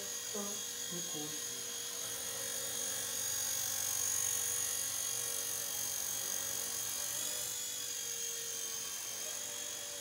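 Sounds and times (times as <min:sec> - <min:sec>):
small helicopter rotor whine: 0:00.0 - 0:10.0.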